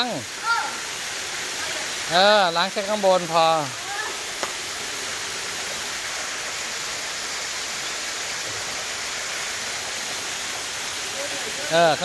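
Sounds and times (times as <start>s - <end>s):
water falling down stone wall: 0.0s - 12.0s.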